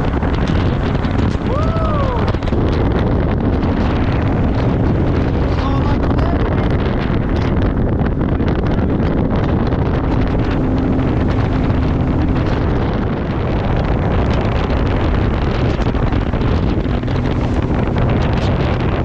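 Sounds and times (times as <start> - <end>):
outboard motor droning: 0.0 - 19.0
wind buffeting microphone: 0.0 - 19.0.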